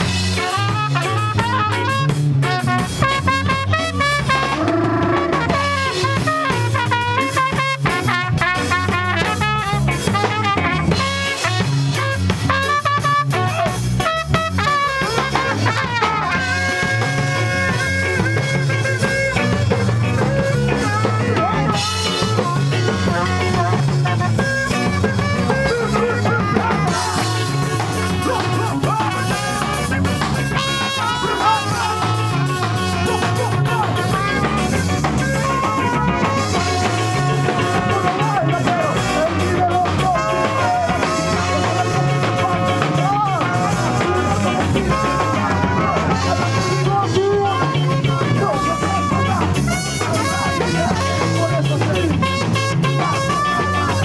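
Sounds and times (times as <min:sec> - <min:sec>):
drum kit: 0:00.0 - 0:54.0
guitar: 0:00.0 - 0:54.0
saxophone: 0:00.0 - 0:54.0.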